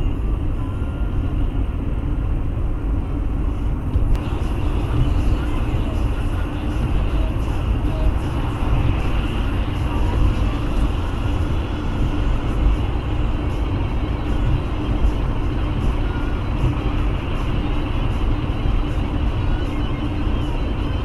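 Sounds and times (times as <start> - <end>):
car road noise drone: 0.0 - 21.0.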